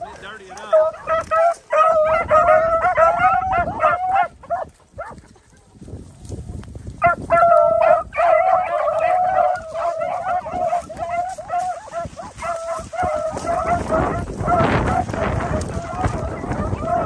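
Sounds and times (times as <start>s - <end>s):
hounds baying: 0.0s - 5.7s, 6.9s - 17.0s.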